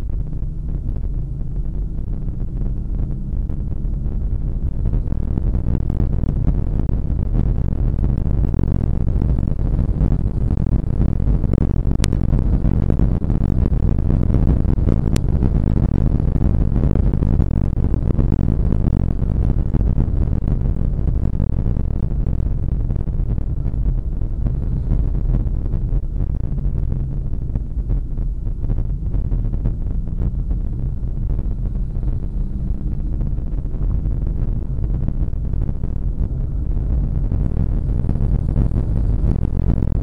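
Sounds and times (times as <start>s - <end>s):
car engine running hard: 0.0s - 40.0s
road and wind noise: 0.0s - 40.0s.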